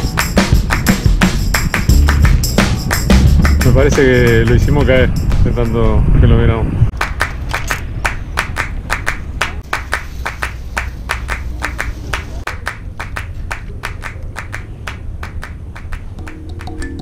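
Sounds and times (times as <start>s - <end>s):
music with clapping beat: 0.0s - 5.6s, 6.9s - 17.0s.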